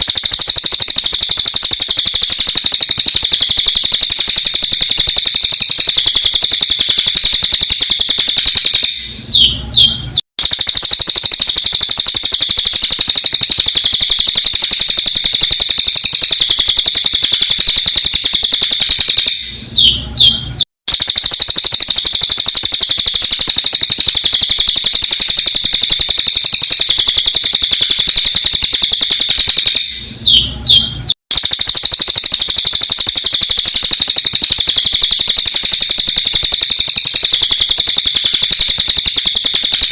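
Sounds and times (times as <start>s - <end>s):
rapid high-pitched birdsong: 0.0s - 39.9s.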